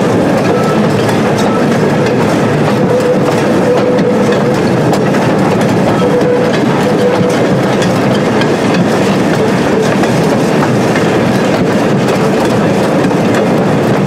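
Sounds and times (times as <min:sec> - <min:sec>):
train clatter: 0:00.0 - 0:14.0
train wheels rumbling on rails: 0:00.0 - 0:14.0.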